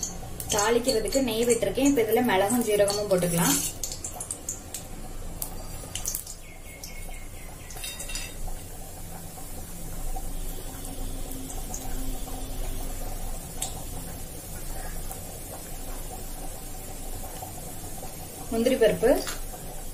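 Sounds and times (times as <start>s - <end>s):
spices sizzling in hot oil: 0.0s - 19.9s.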